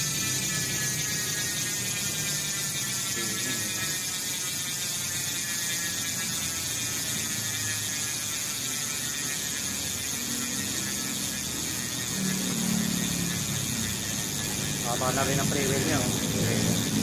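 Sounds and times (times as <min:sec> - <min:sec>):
bicycle hub ratchet buzzing: 0:00.0 - 0:17.0.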